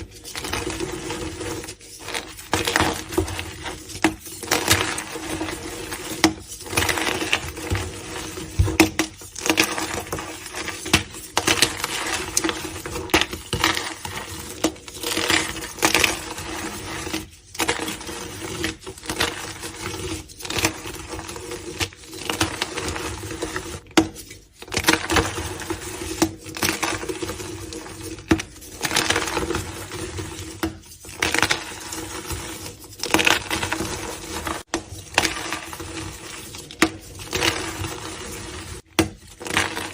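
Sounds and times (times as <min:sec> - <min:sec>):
chalk blocks being crushed: 0:00.0 - 0:39.9.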